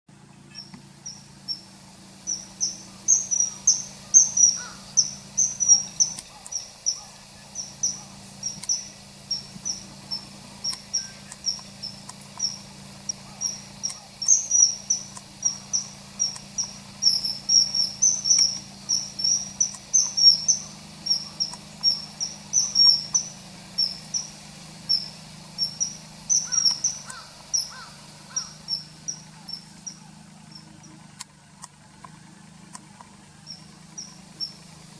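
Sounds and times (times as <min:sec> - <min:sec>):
faint low hum: 0:00.1 - 0:34.9
kingfisher calling: 0:00.3 - 0:31.0, 0:33.4 - 0:34.9.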